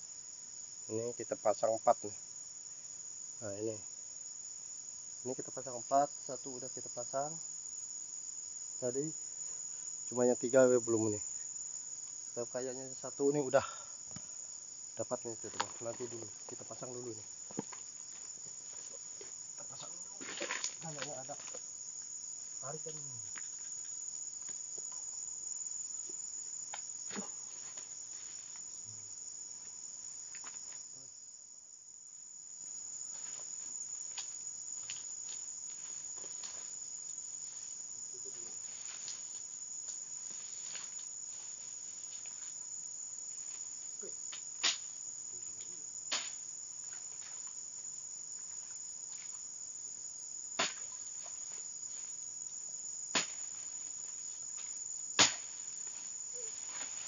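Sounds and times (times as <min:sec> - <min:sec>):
forest insects chorus: 0:00.0 - 0:57.0.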